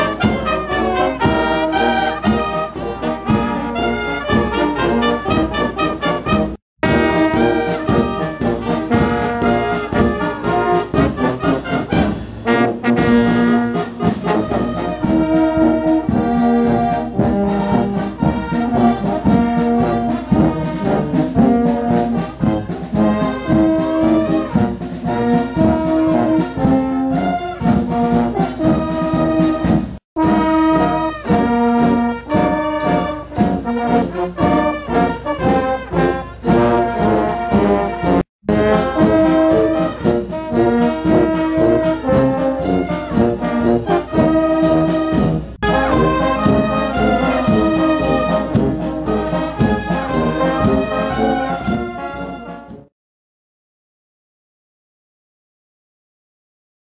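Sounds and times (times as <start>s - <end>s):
brass band playing: 0.0s - 52.9s.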